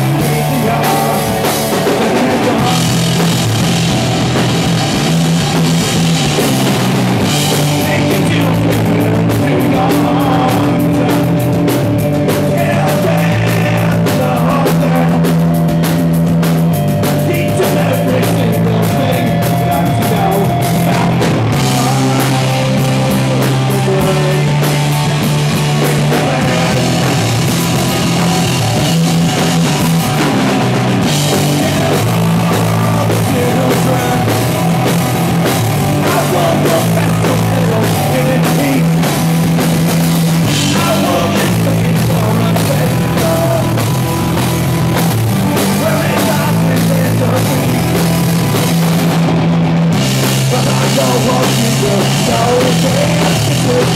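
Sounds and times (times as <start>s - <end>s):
bass guitar: 0.0s - 53.9s
distorted electric guitars: 0.0s - 53.9s.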